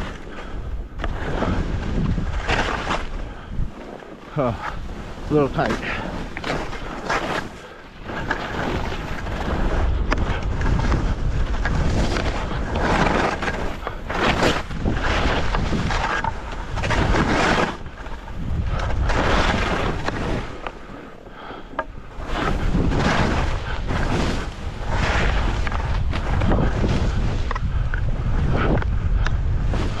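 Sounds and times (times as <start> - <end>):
wind on microphone: 0.0 - 20.9, 21.7 - 30.0
skis swishing through snow: 0.0 - 30.0.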